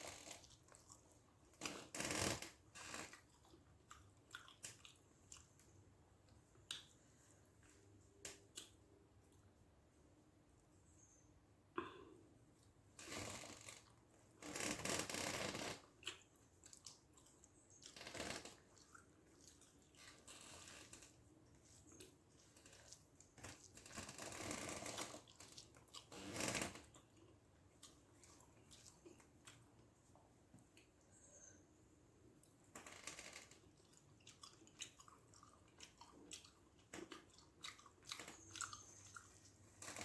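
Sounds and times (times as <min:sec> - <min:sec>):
food being chewed: 0:00.0 - 0:09.5, 0:13.6 - 0:31.6, 0:32.2 - 0:40.0
rustling squishing eating sounds: 0:00.0 - 0:11.1, 0:12.4 - 0:40.0.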